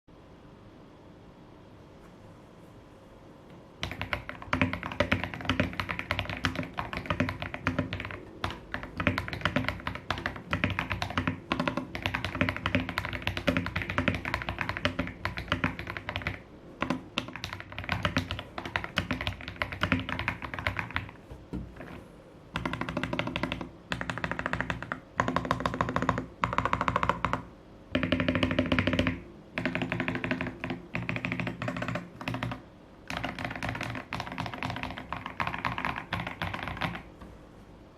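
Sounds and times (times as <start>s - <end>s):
fast typing on mechanical keyboard: 3.8s - 21.2s, 22.6s - 37.1s.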